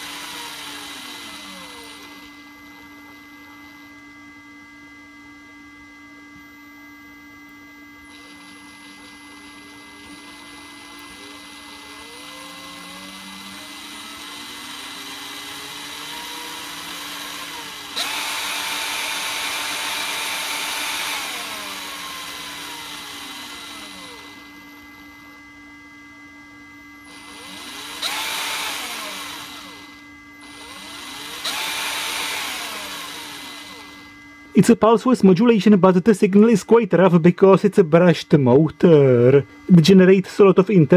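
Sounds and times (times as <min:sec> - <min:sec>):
cordless drill motor whining: 0:00.0 - 0:34.8.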